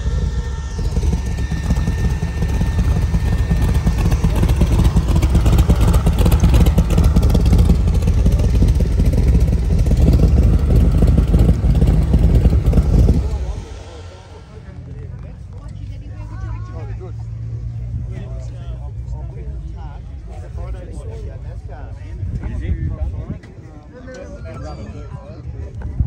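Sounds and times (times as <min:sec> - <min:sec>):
hot rod engine with open headers: 0:00.0 - 0:26.0.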